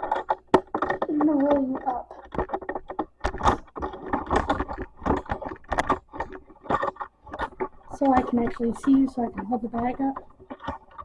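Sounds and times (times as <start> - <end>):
rustling and crinkling: 0.0 - 11.0
small clicks: 0.0 - 11.0.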